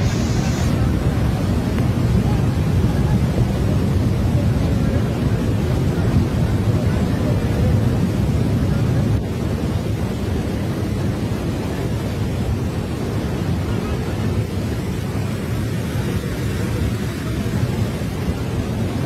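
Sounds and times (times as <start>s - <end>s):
floodwater torrent rumbling: 0.0s - 19.0s.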